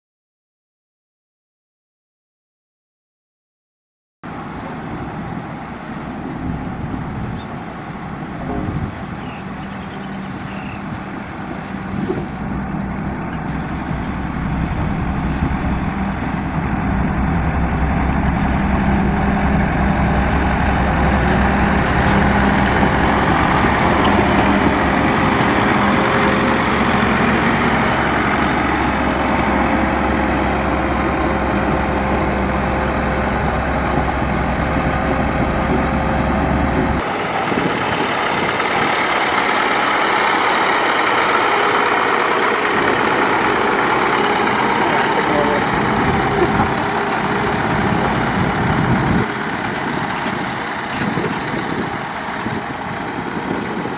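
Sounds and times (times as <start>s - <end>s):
diesel engine running under load: 4.3s - 53.9s.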